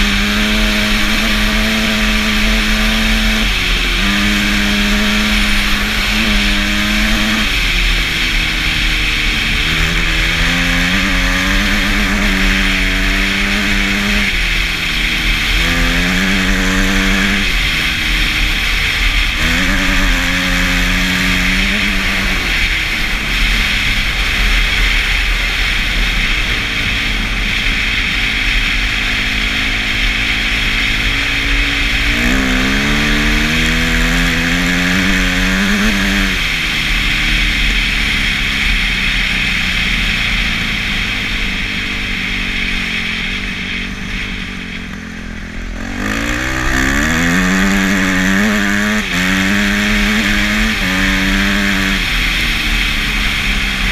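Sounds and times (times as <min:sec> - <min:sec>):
dirt bike engine accelerating: 0:00.0 - 0:53.9.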